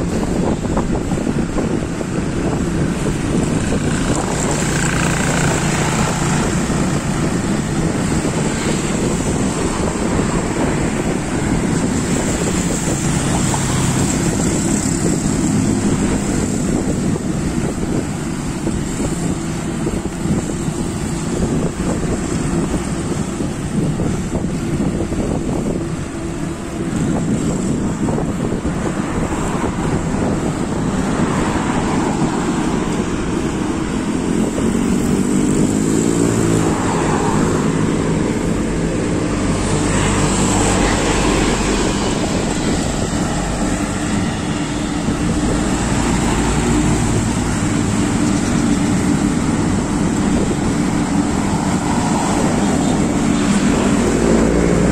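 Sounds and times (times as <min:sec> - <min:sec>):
passing vehicle engine hum: 0:00.0 - 0:54.9
road traffic noise: 0:00.0 - 0:54.9
wind rushing over microphone: 0:00.0 - 0:54.9.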